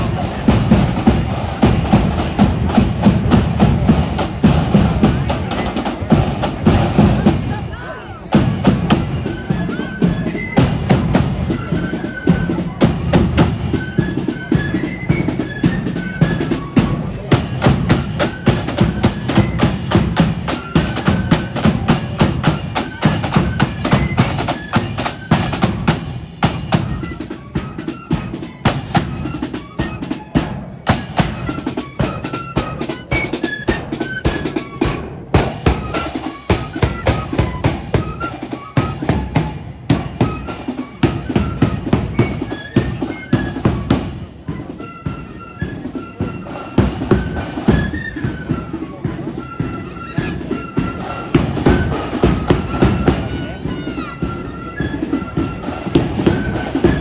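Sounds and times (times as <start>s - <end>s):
rapid snare drumming: 0.0s - 44.8s, 45.7s - 49.4s, 50.4s - 57.0s
high flute melody: 0.0s - 57.0s.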